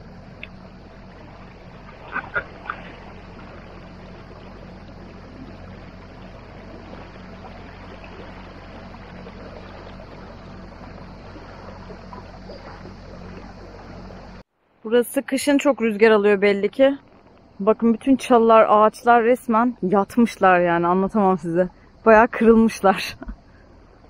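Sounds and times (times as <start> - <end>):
outboard motor humming: 0.0 - 24.0.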